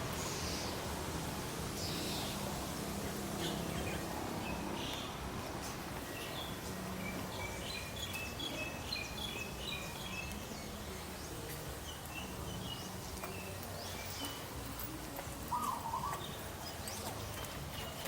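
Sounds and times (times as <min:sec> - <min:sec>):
outdoor background noise: 0:00.0 - 0:18.0
birds chirping: 0:01.7 - 0:18.0.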